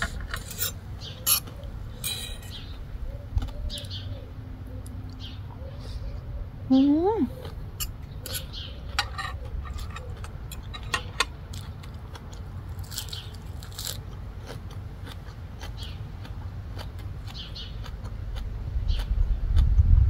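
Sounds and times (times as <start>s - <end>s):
chewing crisp food: 0.0s - 6.0s, 7.3s - 19.8s.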